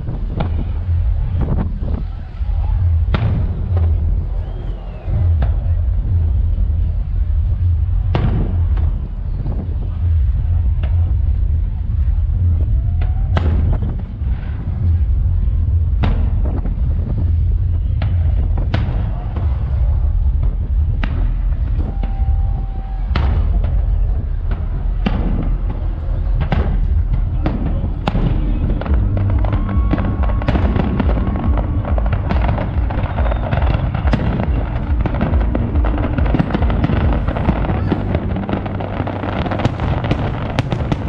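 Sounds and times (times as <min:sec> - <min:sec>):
fireworks bursting: 0:00.0 - 0:41.0
fireworks crackling: 0:00.0 - 0:41.0
low rumble: 0:00.0 - 0:41.0.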